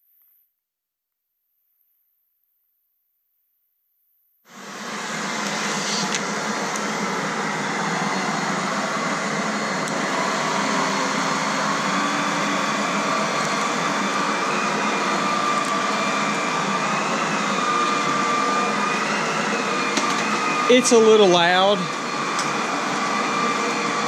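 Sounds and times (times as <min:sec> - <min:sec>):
vacuum cleaner running on carpet: 0:04.5 - 0:24.0.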